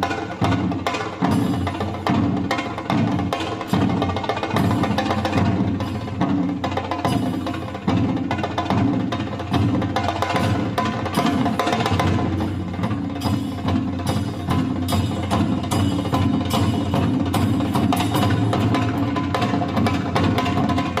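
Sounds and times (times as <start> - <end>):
fast drum strikes: 0.0 - 21.0.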